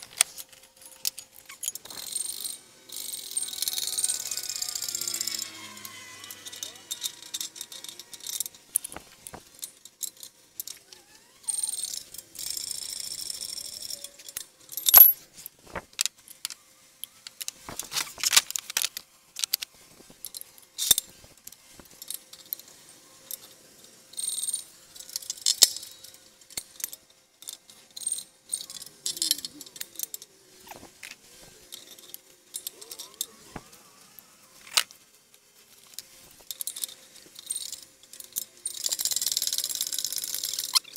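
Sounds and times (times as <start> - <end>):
metal tools clinking and rattling: 0.0 - 15.5, 17.3 - 33.6, 35.8 - 40.9.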